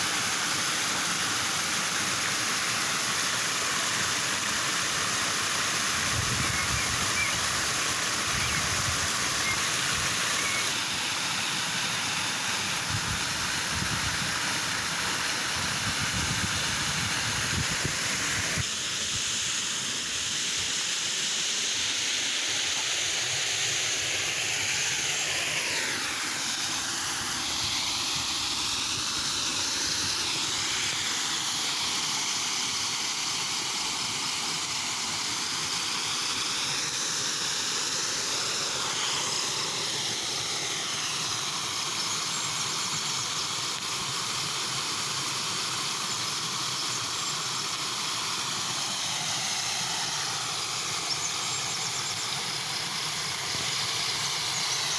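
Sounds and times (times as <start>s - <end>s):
flowing water hissing: 0.0s - 54.9s.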